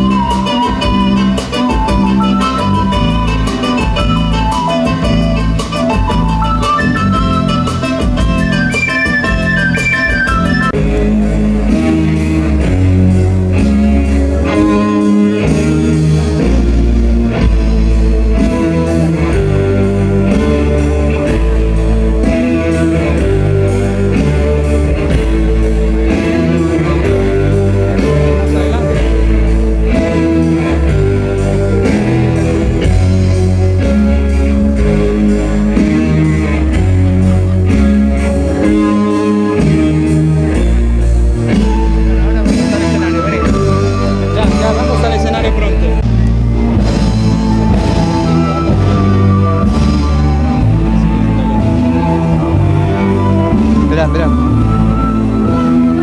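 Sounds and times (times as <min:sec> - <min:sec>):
band music: 0:00.0 - 0:56.0
guitar: 0:00.0 - 0:56.0
stepping bass line: 0:00.0 - 0:56.0.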